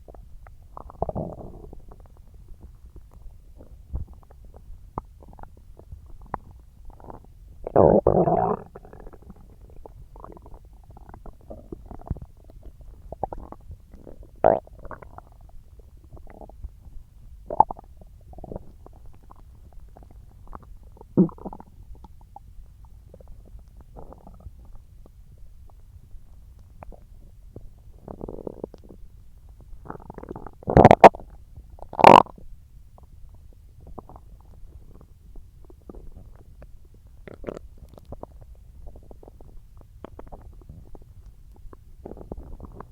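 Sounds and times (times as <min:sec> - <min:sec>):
stomach gurgling and rumbling: 0:00.0 - 0:42.9.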